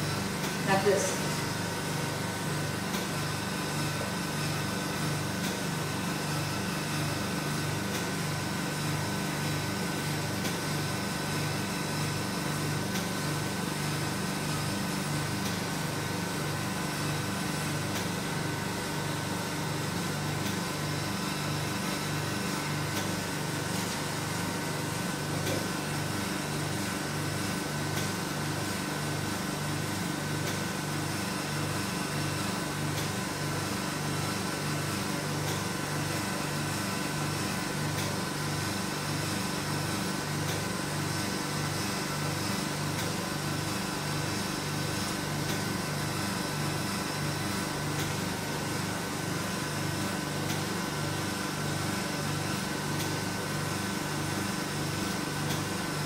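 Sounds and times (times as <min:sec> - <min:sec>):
machine motor hum with pulsing: 0:00.0 - 0:56.0.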